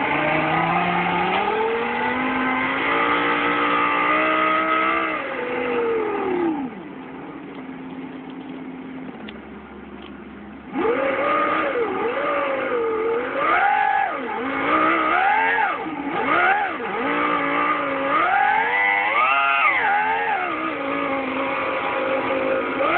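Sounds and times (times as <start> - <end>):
synthetic engine sound revving: 0.0 - 7.0, 10.7 - 22.9.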